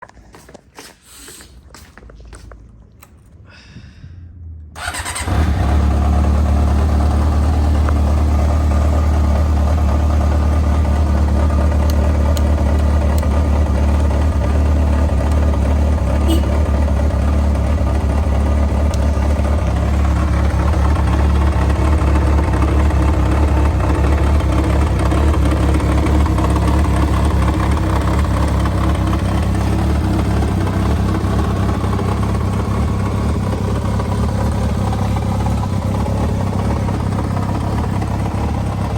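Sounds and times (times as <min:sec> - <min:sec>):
motorcycle engine idling: 0:04.8 - 0:38.9.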